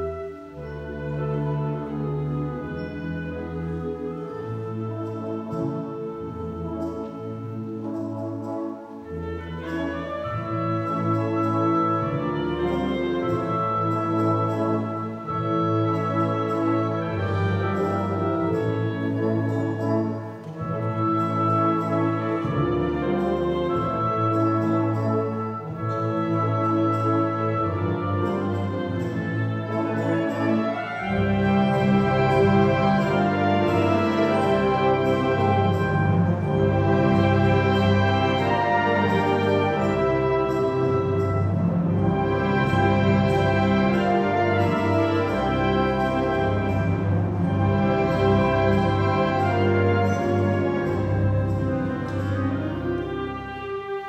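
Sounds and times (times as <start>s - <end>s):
wind band playing chords: 0.0s - 54.0s.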